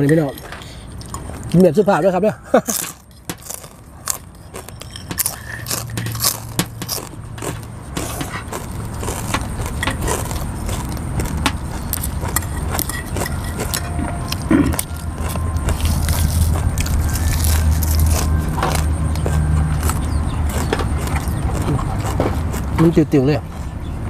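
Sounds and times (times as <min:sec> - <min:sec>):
chewing: 0:00.0 - 0:01.7, 0:02.6 - 0:23.0
crunching leafy vegetables: 0:00.0 - 0:23.4
low steady rumble: 0:00.0 - 0:24.0.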